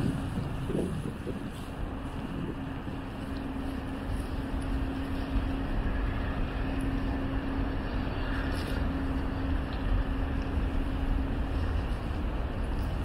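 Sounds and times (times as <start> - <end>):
city street low rumble: 0.0 - 13.0
constant low hum: 0.0 - 13.0.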